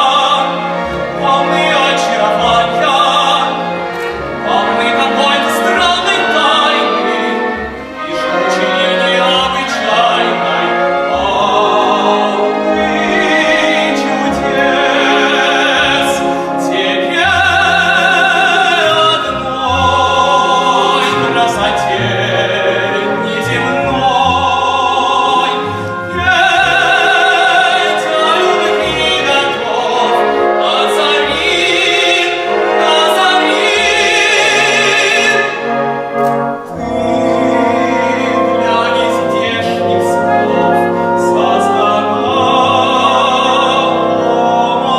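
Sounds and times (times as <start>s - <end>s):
operatic singing with vibrato: 0.0s - 44.9s
orchestral accompaniment: 0.0s - 44.9s.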